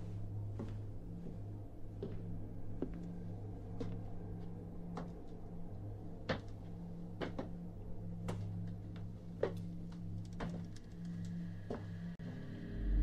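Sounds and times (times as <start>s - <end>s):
film soundtrack on television: 0.1s - 13.0s.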